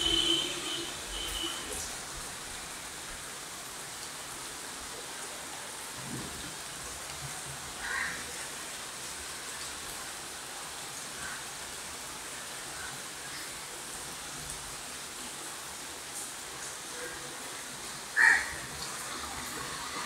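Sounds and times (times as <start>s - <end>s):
rain on foliage: 0.0s - 20.0s.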